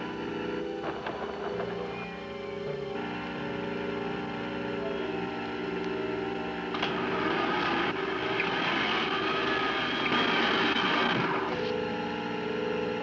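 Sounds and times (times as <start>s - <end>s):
cartoon music with held notes: 0.0s - 13.0s
noisy humming sound effect: 0.0s - 13.0s.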